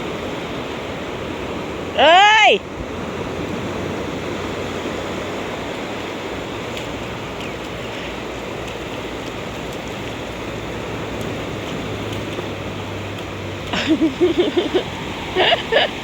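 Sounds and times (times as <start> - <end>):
sea surf rushing on beach: 0.0 - 16.0.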